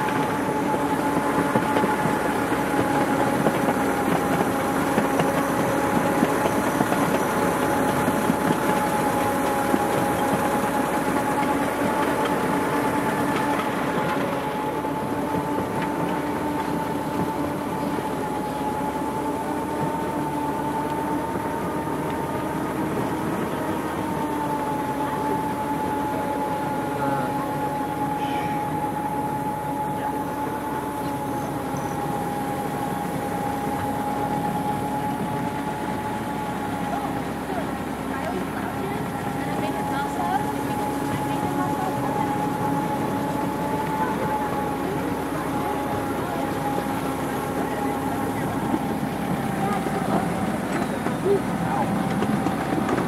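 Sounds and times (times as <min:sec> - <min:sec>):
miniature train running: 0:00.0 - 0:53.0
steady hum: 0:00.0 - 0:53.0.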